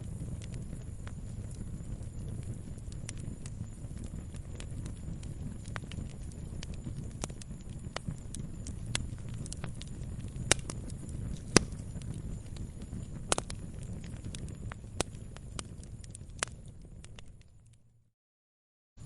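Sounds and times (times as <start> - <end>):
bonfire flames rumbling: 0.0 - 18.0
fire crackles and pops: 0.0 - 18.0.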